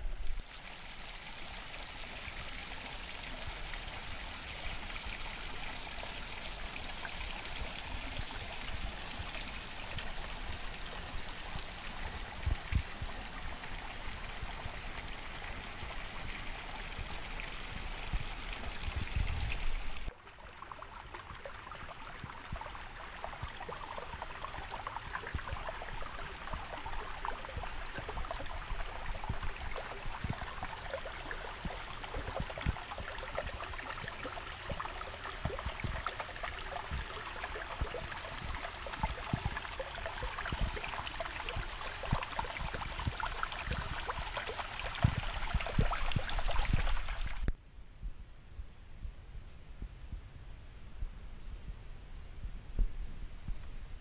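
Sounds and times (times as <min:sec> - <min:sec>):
creek water running: 0:00.0 - 0:47.6.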